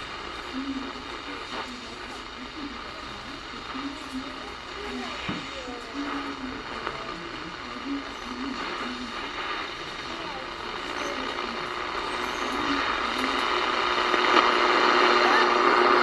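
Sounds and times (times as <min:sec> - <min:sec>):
broadcast voices on radio: 0:00.0 - 0:16.0
radio static: 0:00.0 - 0:16.0.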